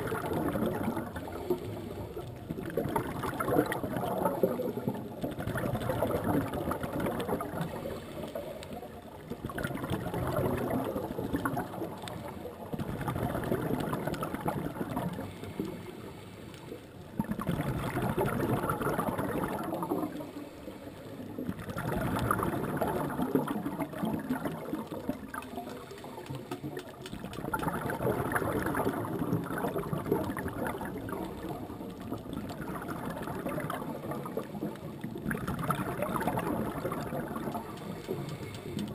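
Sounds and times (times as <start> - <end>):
regulator bubbles gurgling: 0.0 - 38.9.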